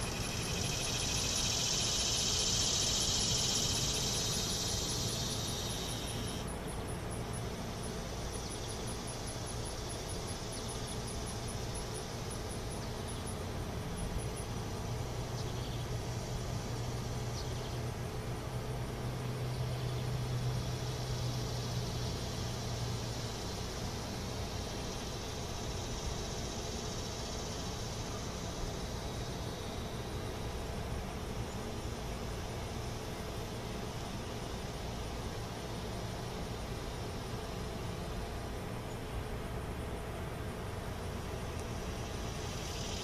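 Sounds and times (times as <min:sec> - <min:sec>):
low engine-like hum: 0:00.0 - 0:43.0.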